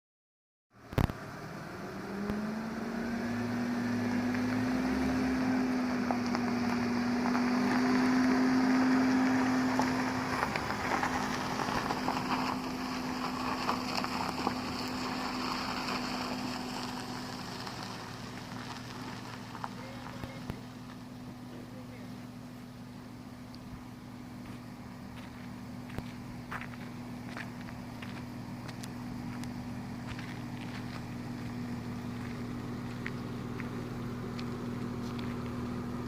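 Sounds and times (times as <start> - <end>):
car engine running: 0.7 - 36.0.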